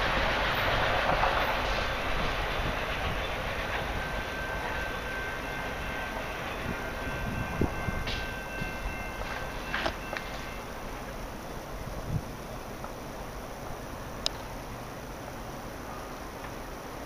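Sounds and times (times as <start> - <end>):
thin steady whine: 0.0 - 17.0
train wheels rolling on rails: 0.0 - 17.0.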